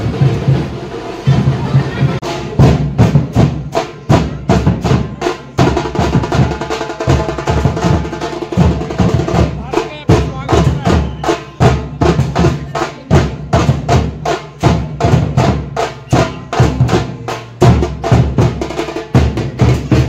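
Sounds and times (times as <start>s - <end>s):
barrel drums beating: 0.0s - 20.0s
sharp rapid drum strokes: 0.0s - 20.0s.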